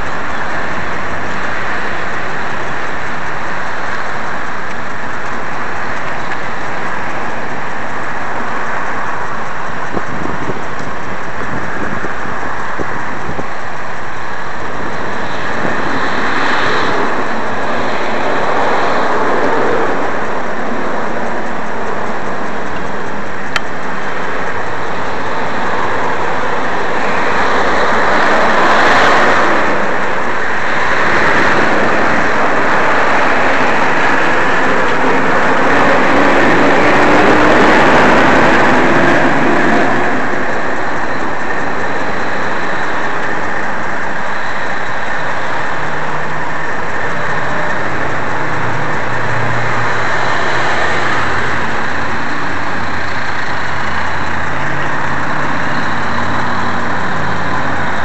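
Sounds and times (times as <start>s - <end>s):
loud vehicle noise: 0.0s - 58.0s.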